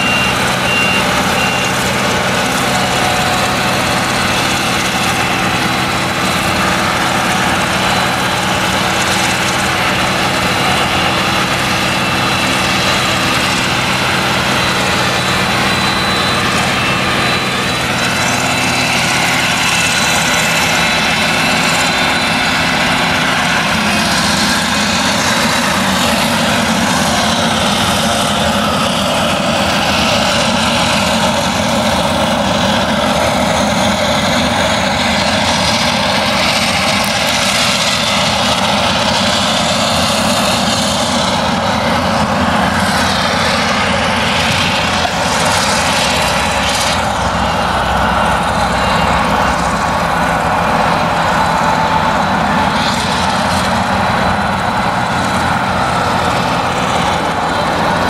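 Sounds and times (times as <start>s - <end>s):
chopper high whine and hiss: 0.0s - 58.0s
harvester engine under load: 0.0s - 58.0s.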